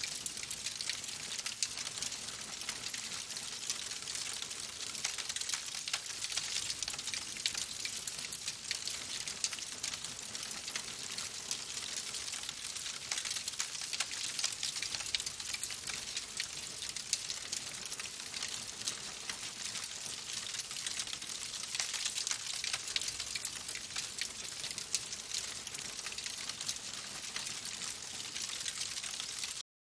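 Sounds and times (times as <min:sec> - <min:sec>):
wood fire crackling: 0:00.0 - 0:29.6.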